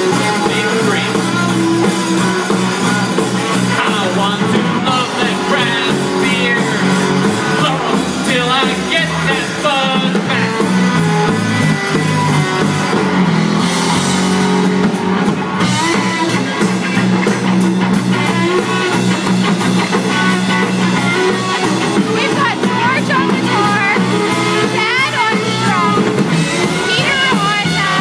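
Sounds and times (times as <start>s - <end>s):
drum kit with cymbals: 0.0s - 28.0s
electric guitars: 0.0s - 28.0s.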